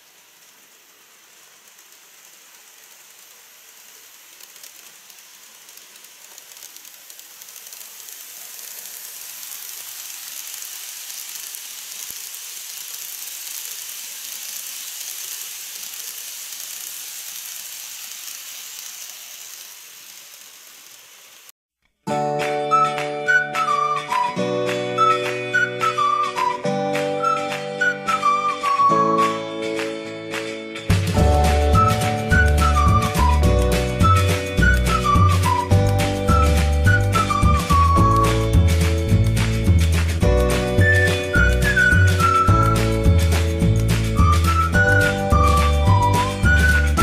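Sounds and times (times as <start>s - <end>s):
model train whirring on rails: 0.0s - 21.5s, 22.7s - 29.9s, 30.9s - 47.0s.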